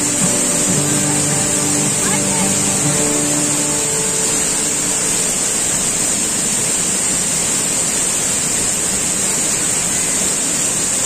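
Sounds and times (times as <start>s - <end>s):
high-pitched hiss: 0.0s - 10.0s
waterfall rushing over rock: 0.0s - 11.0s.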